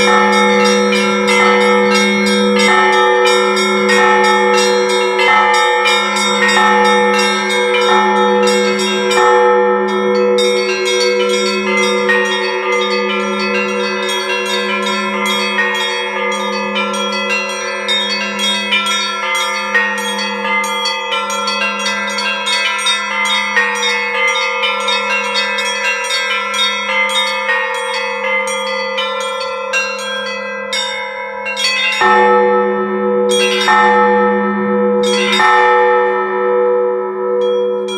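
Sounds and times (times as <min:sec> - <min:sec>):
small high-pitched bells pealing: 0:00.0 - 0:32.5, 0:33.3 - 0:34.3, 0:35.0 - 0:36.1
low church bell struck slowly: 0:00.0 - 0:37.9.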